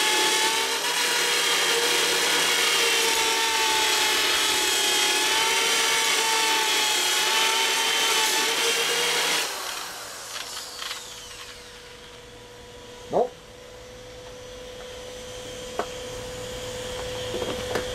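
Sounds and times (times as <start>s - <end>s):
electric drill grinding: 0.0s - 17.9s.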